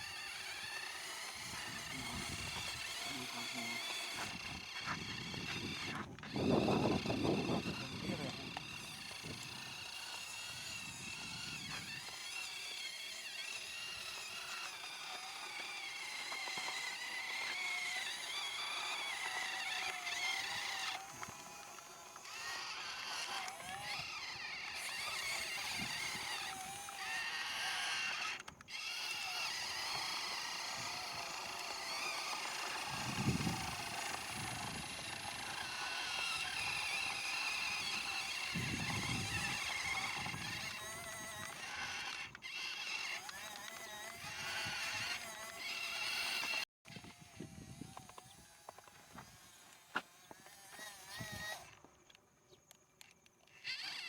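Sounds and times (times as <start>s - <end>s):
small electric motors whining: 0.0s - 54.0s.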